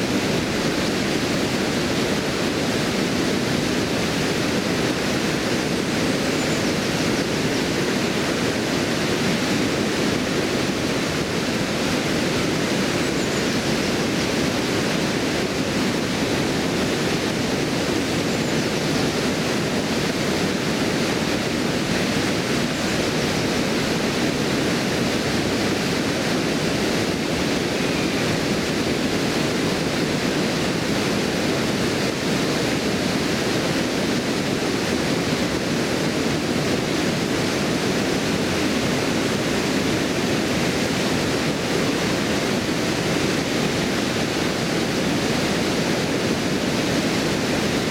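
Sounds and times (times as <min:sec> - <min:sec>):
river water rushing over a weir: 0:00.0 - 0:47.9.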